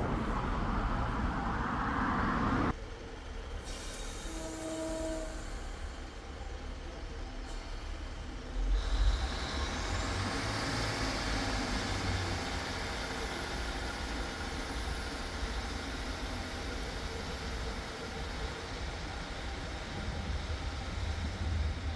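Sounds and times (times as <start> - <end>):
train heavy low rumble: 0.0 - 21.9.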